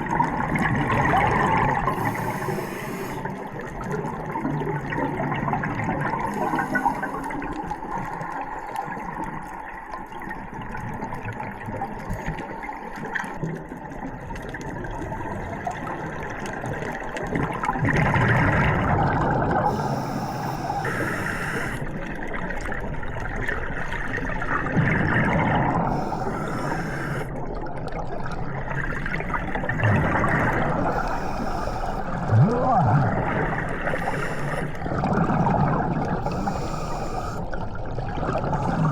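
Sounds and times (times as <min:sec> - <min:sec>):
water rushing and gurgling: 0:00.0 - 0:08.6, 0:14.9 - 0:38.9.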